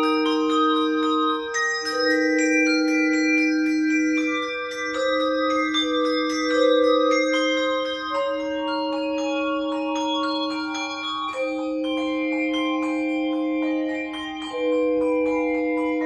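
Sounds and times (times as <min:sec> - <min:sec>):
handbells and chimes melody: 0:00.0 - 0:16.0.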